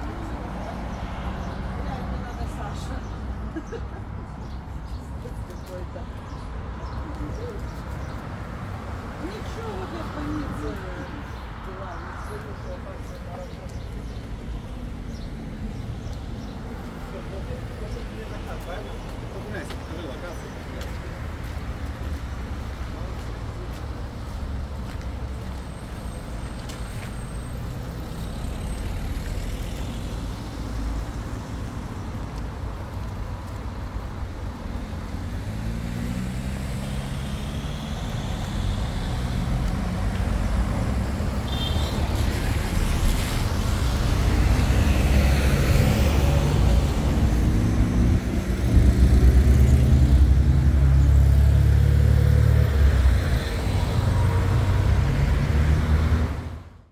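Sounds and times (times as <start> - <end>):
vehicle engine rumbling and revving: 4.4 - 56.9.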